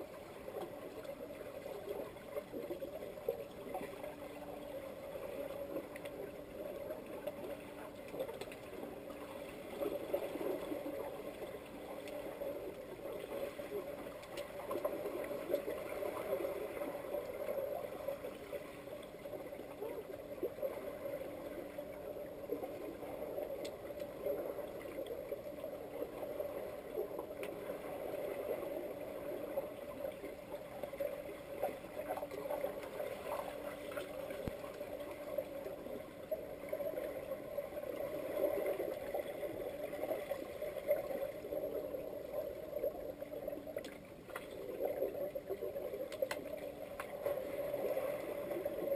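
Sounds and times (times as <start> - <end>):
small underwater clicks and knocks: 0.0 - 48.9
underwater water noise: 0.0 - 48.9.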